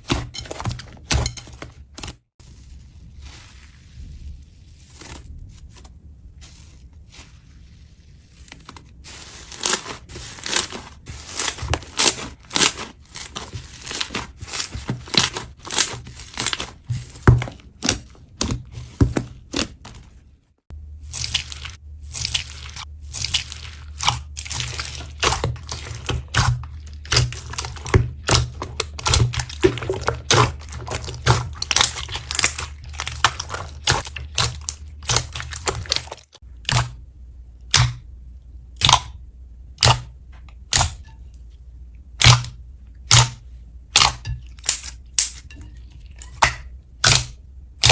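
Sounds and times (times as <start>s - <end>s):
slime crunching and crackling: 1.8s - 20.2s, 20.8s - 37.0s, 42.1s - 47.9s.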